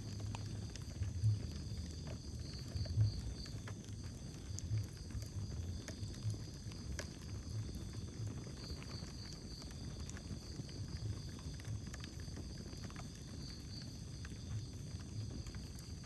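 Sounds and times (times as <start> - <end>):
crackles and pops of burning wood: 0.0 - 16.0
rumble of flames: 0.0 - 16.0.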